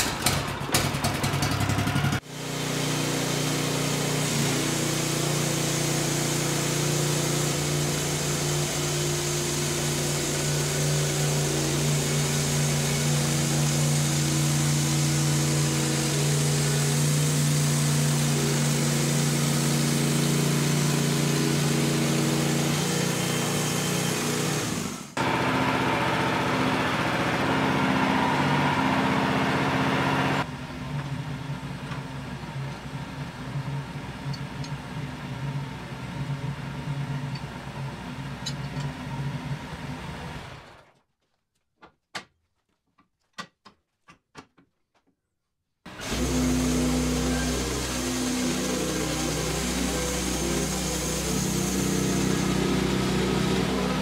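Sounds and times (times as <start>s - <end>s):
bandsaw mill engine running: 0.0s - 40.7s, 45.9s - 54.0s.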